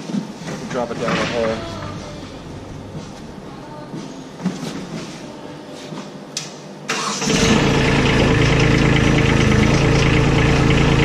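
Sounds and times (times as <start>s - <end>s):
tractor engine starting and running: 0.5s - 5.2s, 6.9s - 11.0s.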